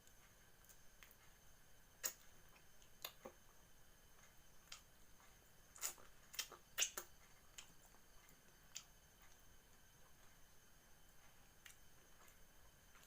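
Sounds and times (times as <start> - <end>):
faint high-pitched hum: 0.0 - 13.0
soft eating clicks: 0.0 - 13.0.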